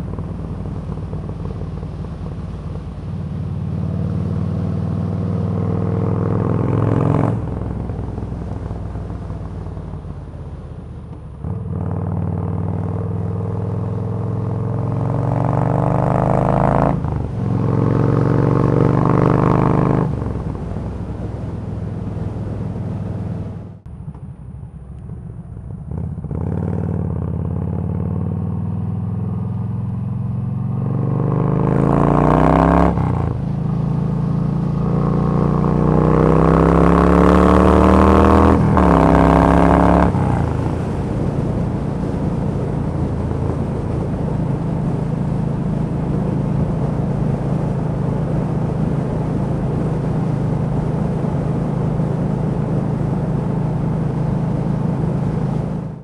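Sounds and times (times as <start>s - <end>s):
motorcycle engine revving: 0.0s - 10.2s, 11.4s - 23.8s, 25.9s - 56.0s.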